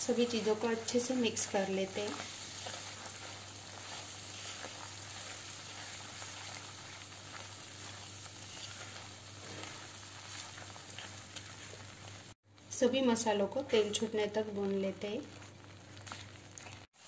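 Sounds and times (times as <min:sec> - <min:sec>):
paste sizzling in hot oil: 0:00.0 - 0:12.4, 0:13.6 - 0:17.0
small crackles: 0:00.1 - 0:12.8, 0:13.6 - 0:17.0.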